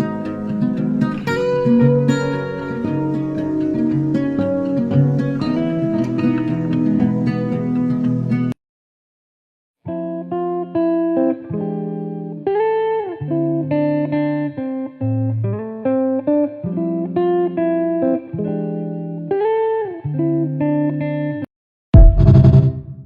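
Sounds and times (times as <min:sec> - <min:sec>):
instrumental guitar music: 0:00.0 - 0:08.6, 0:09.8 - 0:21.5.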